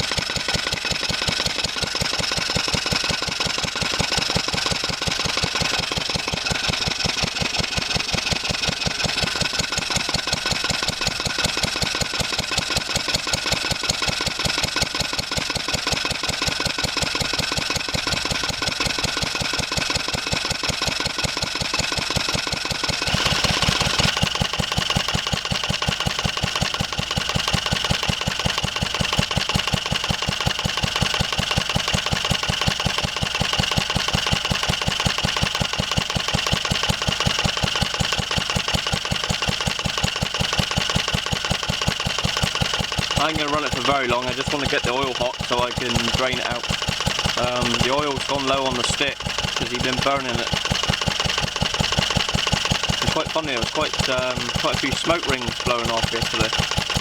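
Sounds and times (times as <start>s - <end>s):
stationary engine running: 0.0s - 57.0s.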